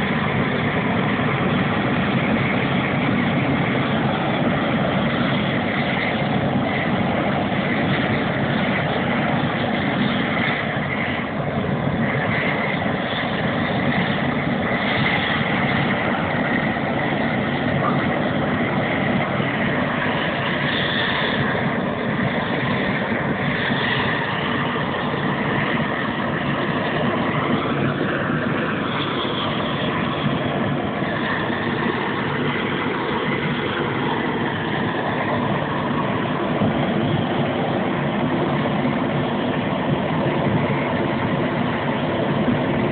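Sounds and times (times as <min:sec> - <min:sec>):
gas torch burning: 0:00.0 - 0:42.9.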